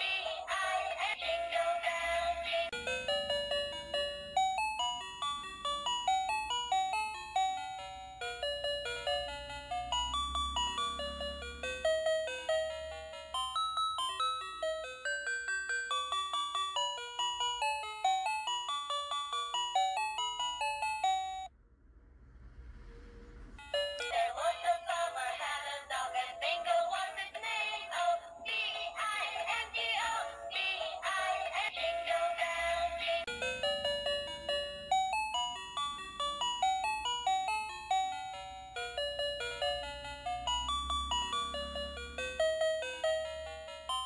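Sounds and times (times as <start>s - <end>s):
toy beeping electronic melody: 0.0s - 21.5s, 23.6s - 44.0s.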